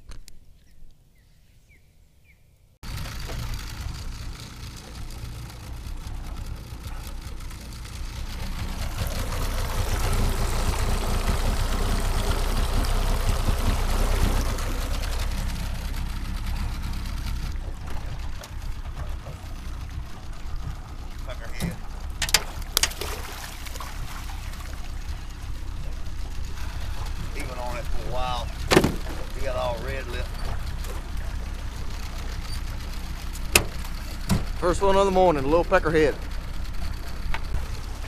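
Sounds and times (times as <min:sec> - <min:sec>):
boat motor running: 0:02.8 - 0:38.0
water rushing past hull: 0:02.8 - 0:38.0.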